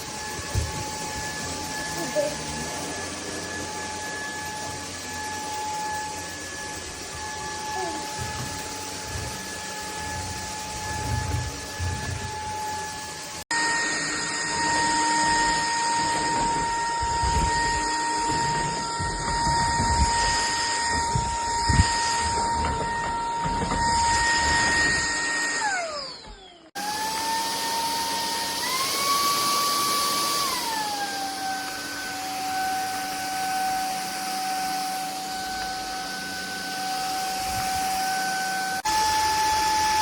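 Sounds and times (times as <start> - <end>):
vacuum cleaner motor whine: 0.0 - 40.0.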